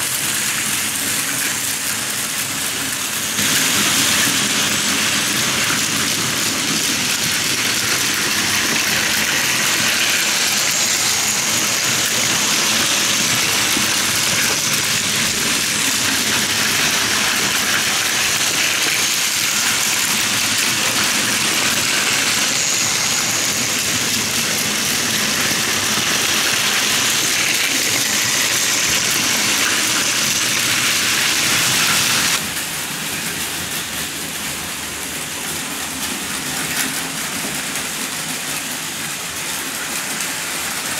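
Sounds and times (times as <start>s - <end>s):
model train running: 0.0s - 40.9s
toy trains whirring on track: 0.0s - 40.9s.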